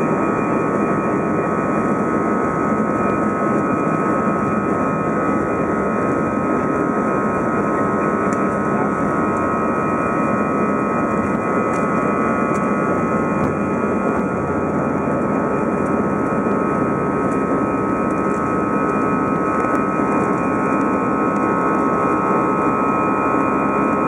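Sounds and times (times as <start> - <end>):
high engine whine: 0.0 - 24.0
jet engine rumble: 0.0 - 24.0.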